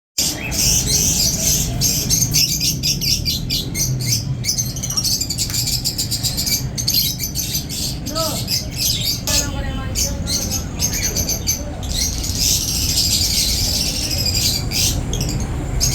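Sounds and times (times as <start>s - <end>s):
caged birds chirping and squawking: 0.2s - 15.9s.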